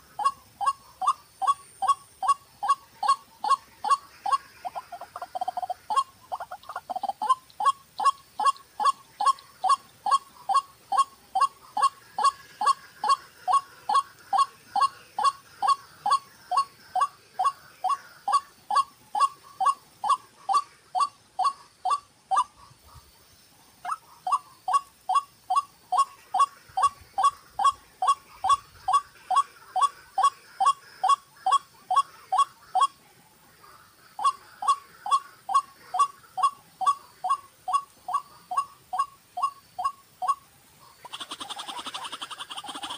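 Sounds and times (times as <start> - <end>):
waterhen calling: 0.0 - 23.0, 23.8 - 33.0, 33.6 - 42.9.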